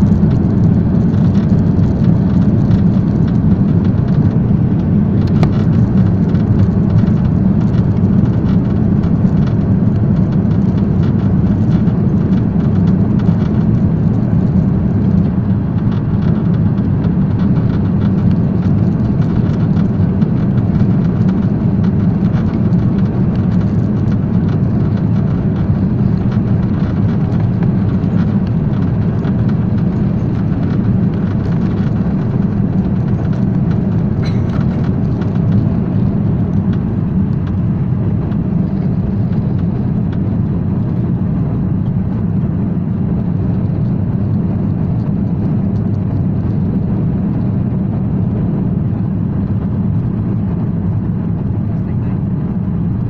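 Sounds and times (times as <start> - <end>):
jet engines at takeoff thrust: 0.0 - 53.0.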